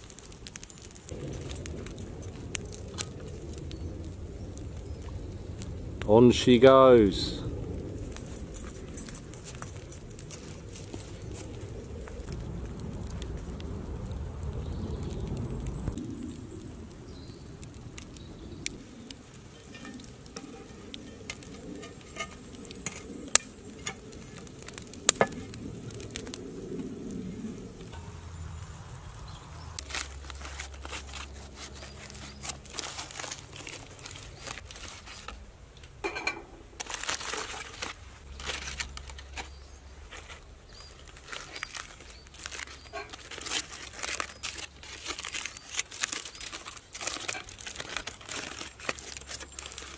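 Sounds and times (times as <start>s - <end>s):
aluminium foil crinkling and tearing: 0.0s - 5.8s, 7.9s - 16.6s, 17.2s - 26.7s, 29.7s - 35.5s, 36.7s - 49.9s
wood fire cracking: 0.0s - 49.9s.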